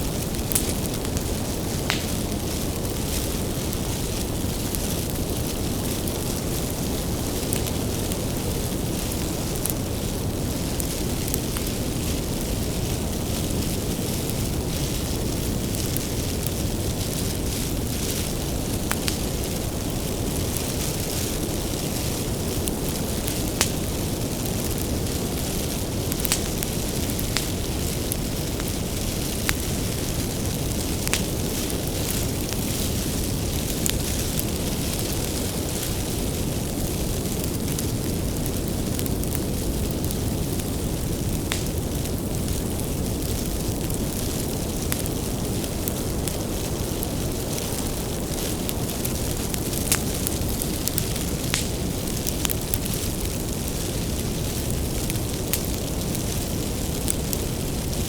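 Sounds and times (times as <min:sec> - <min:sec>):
firewood crackling and popping: 0:00.0 - 0:58.0
wood fire burning: 0:00.0 - 0:58.0.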